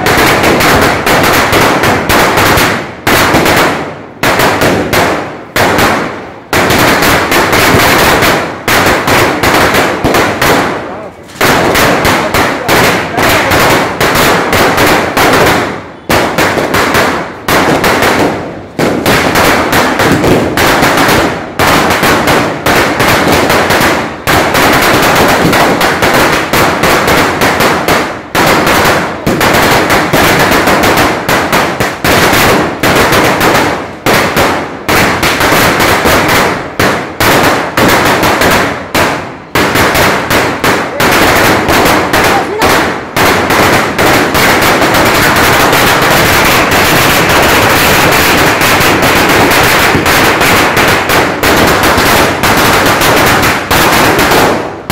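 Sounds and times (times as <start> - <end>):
firecrackers bursting: 0.0 - 54.9.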